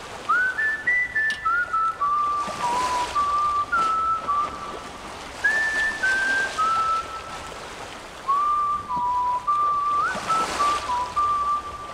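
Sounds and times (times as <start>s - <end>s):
whistled melody: 0.3s - 7.5s, 8.2s - 11.9s.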